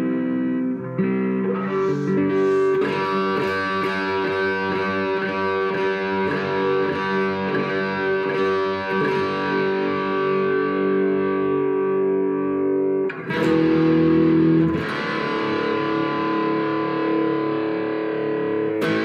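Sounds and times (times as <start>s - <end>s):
electric guitar chords: 0.0s - 19.0s.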